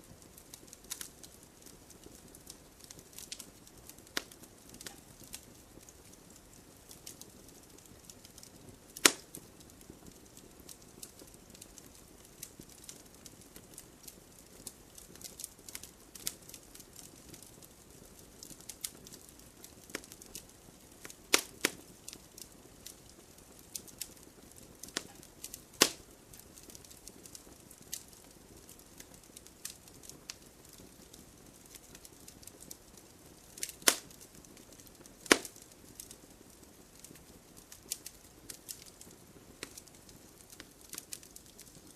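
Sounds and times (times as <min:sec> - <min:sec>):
wood fire crackling: 0:00.0 - 0:41.9
sharp fire pops: 0:00.2 - 0:32.8, 0:33.5 - 0:36.3, 0:37.0 - 0:41.9.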